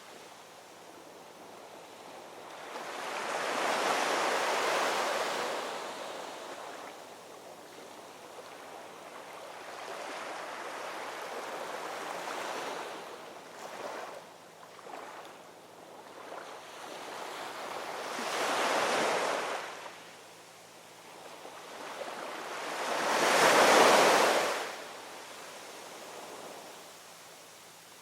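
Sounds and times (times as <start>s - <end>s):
low wash of surf: 0.7s - 20.2s, 21.0s - 28.0s
ocean waves breaking on shore: 1.9s - 20.0s, 21.1s - 26.8s.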